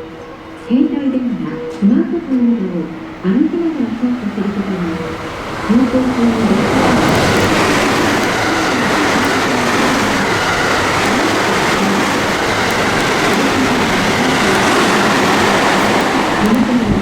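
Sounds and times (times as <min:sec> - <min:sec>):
train wheels rolling on rail: 0:00.0 - 0:17.0
traction motor hum: 0:01.8 - 0:17.0.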